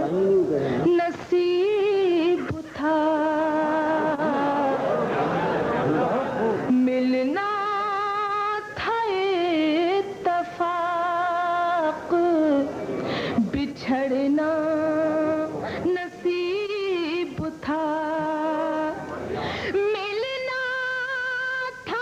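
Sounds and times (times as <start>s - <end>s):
woman singing with vibrato: 0.8s - 5.1s, 6.6s - 12.8s, 13.4s - 22.0s.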